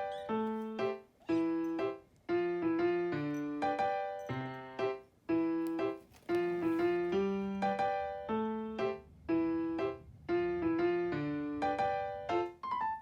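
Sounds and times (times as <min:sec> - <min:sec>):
bouncy keyboard melody: 0:00.0 - 0:13.0.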